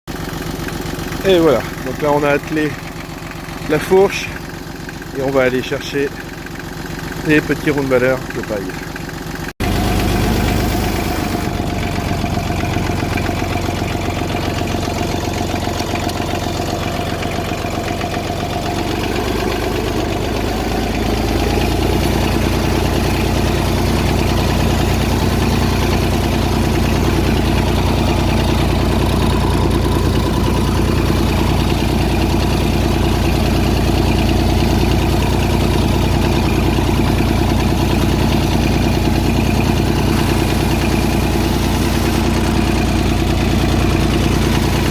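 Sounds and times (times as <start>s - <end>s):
tractor diesel engine running: 0.1s - 44.9s.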